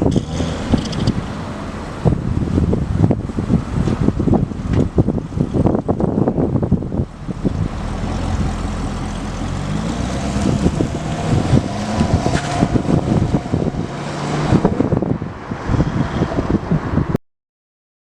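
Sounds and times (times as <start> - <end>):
wind buffeting microphone: 0.0 - 17.2
car engine running: 0.1 - 15.1.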